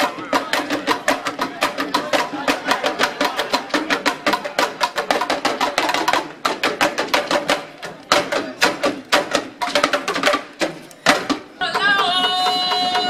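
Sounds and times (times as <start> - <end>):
talking drums ensemble: 0.0 - 13.0.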